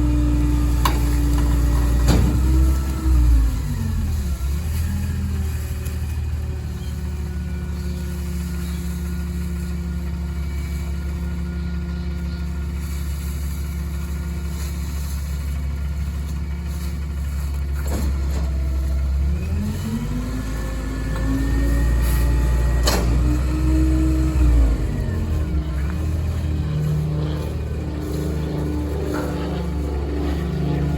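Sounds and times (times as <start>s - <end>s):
diesel truck engine idling and revving: 0.0s - 30.9s.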